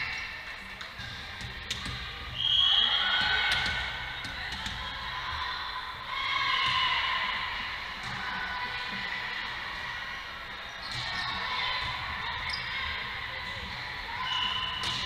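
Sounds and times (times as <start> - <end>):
voices calling out in gym: 0.0 - 15.0.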